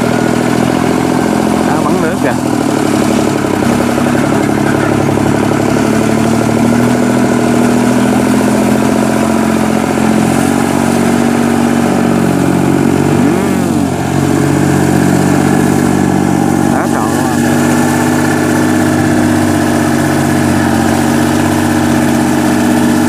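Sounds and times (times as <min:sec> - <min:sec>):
farm machine engine chugging: 0:00.0 - 0:23.0.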